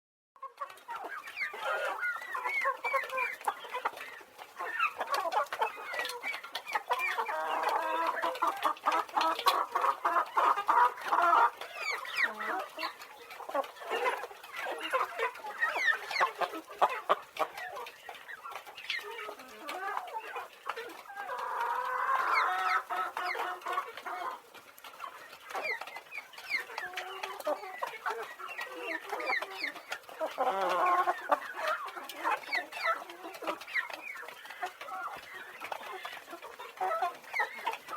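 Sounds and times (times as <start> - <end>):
chickens clucking and calling: 0.4 - 37.9.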